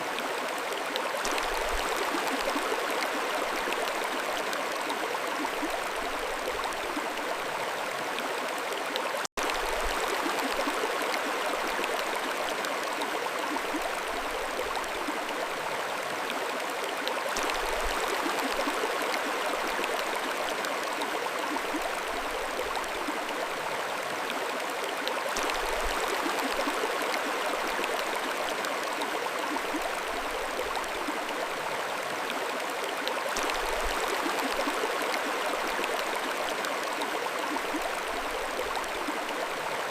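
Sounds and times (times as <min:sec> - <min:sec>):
stream rushing and gurgling: 0:00.0 - 0:39.9.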